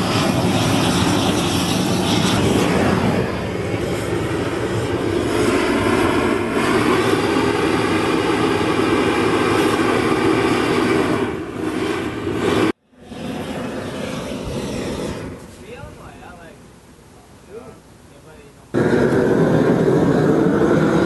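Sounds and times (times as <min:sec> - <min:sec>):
steady engine drone: 0:00.0 - 0:21.0.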